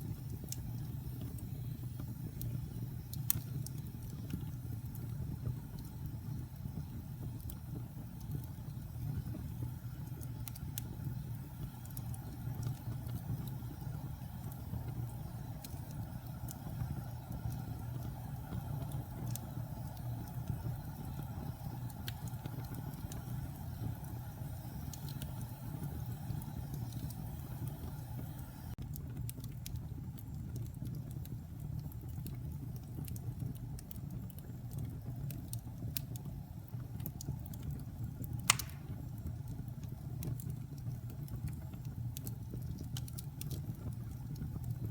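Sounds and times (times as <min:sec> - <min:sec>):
log fire crackling: 0:00.0 - 0:44.9.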